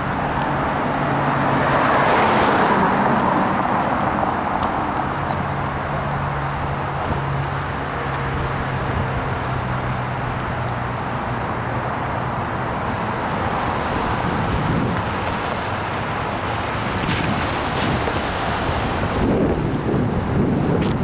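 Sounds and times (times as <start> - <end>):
car passing by: 0.0 - 21.0.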